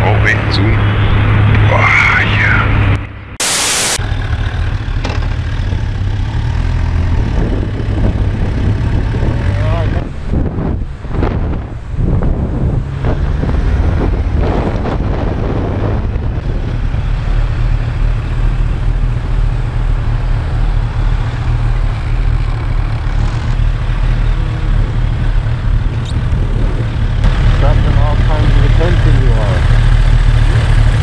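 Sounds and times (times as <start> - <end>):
motorcycle engine: 3.5 - 31.0
wind rushing on microphone: 5.6 - 31.0.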